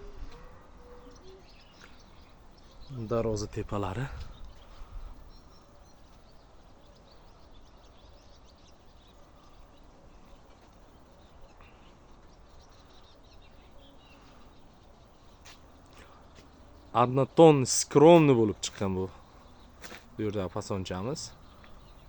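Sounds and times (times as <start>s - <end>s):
small bird chirps: 0.0s - 17.0s, 20.9s - 22.0s
faint outdoor background noise: 0.0s - 22.0s.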